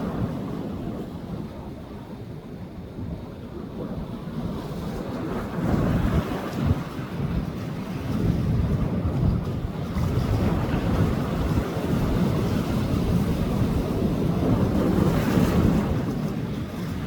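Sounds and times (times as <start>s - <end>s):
sea waves breaking on beach: 0.0s - 17.0s
wind buffeting microphone: 0.0s - 17.0s.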